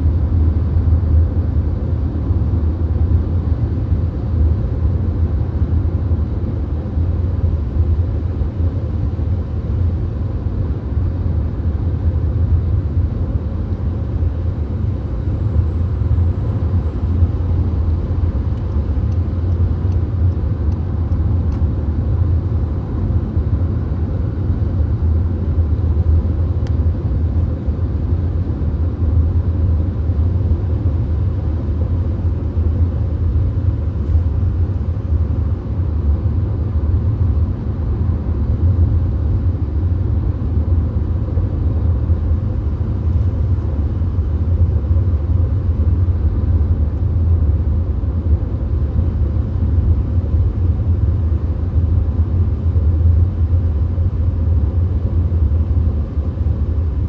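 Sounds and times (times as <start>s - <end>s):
car road and engine rumble: 5.1s - 57.0s.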